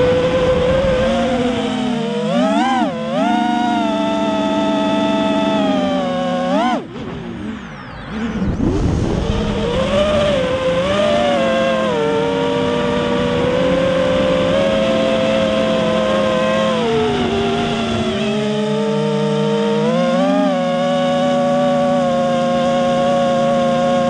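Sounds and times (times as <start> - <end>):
drone motors and propellers whining: 0.0 - 24.0.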